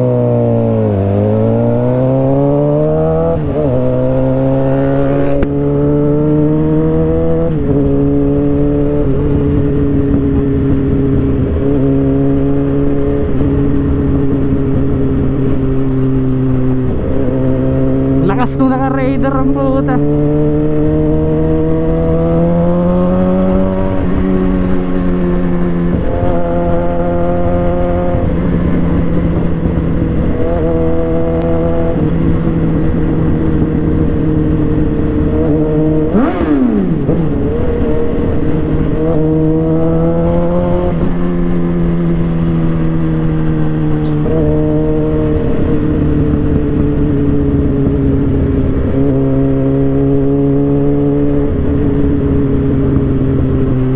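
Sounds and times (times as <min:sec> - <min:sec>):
motorcycle engine accelerating: 0:00.0 - 0:53.9
wind rumble: 0:00.0 - 0:53.9.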